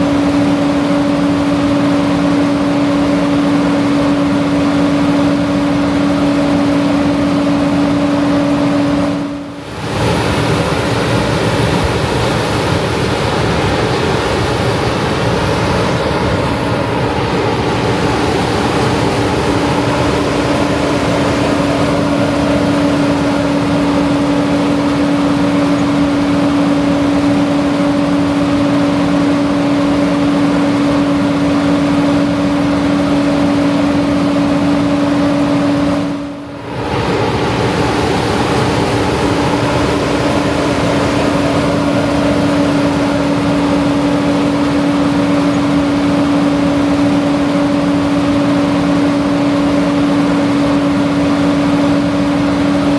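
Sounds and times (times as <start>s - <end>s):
combine harvester droning: 0.0s - 52.9s
steady hum: 0.0s - 52.9s.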